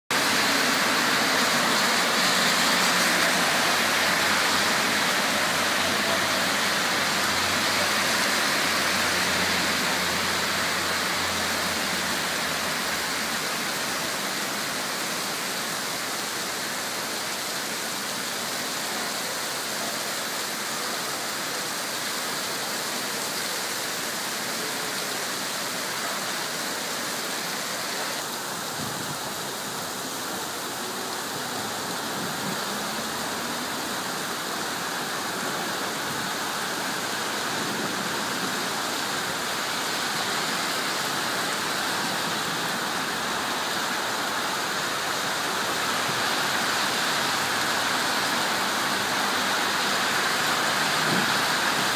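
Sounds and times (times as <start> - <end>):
heavy rain on pavement: 0.0 - 51.9.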